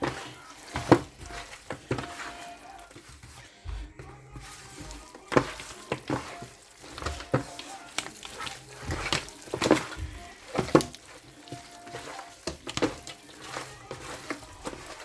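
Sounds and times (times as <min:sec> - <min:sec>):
chicken sizzling in a pan: 0:00.0 - 0:03.5, 0:04.4 - 0:15.0.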